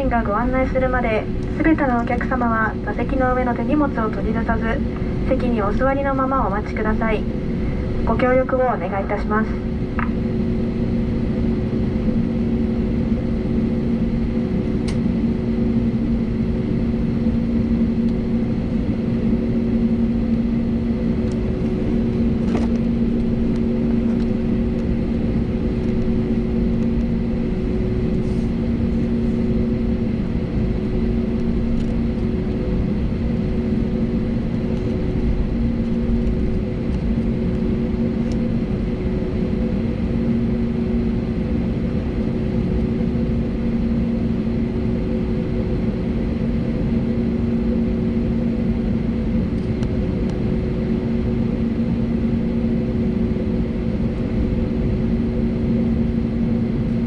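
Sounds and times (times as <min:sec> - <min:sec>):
jet engines idling in cabin: 0:00.0 - 0:57.0.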